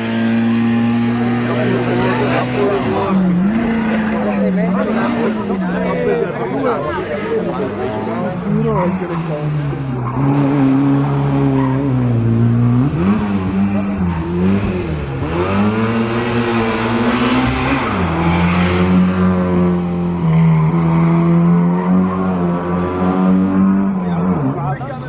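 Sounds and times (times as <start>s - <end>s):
rally car engine running hard: 0.0s - 25.0s.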